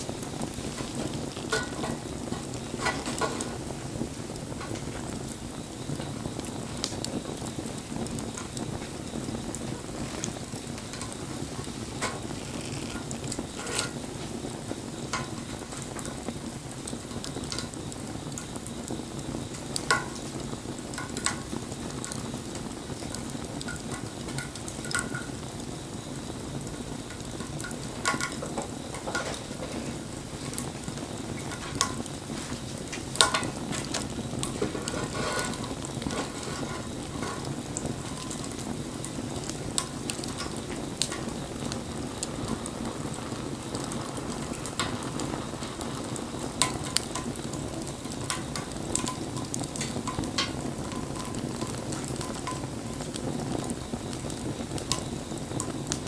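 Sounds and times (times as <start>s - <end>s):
campfire flames hissing: 0.0s - 56.0s
fire crackles and pops: 0.0s - 56.0s.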